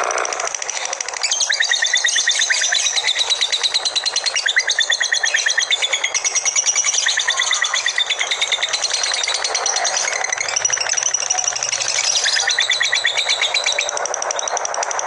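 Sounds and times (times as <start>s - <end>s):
songbird singing fast chattering song: 0.2s - 15.0s.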